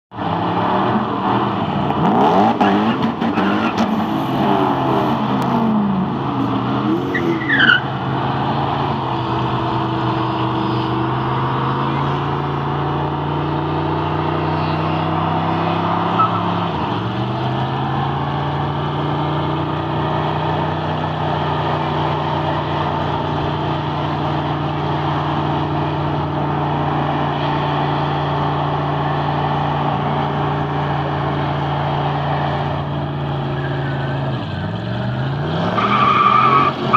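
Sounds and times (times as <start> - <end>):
car engines revving: 0.1 - 36.9
tires spinning: 0.1 - 36.9.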